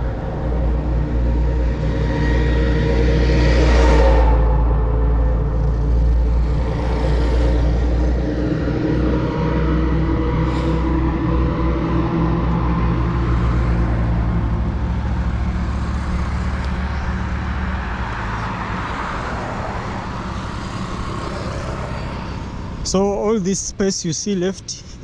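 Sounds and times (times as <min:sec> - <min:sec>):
low engine hum: 0:00.0 - 0:25.0
road and wind noise: 0:00.0 - 0:25.0.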